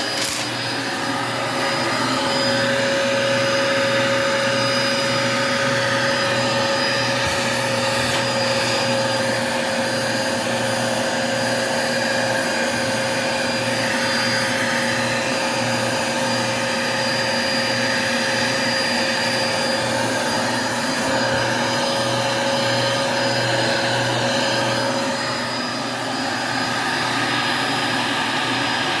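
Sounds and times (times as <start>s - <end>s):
vacuum cleaner running over carpet: 0.0s - 29.0s.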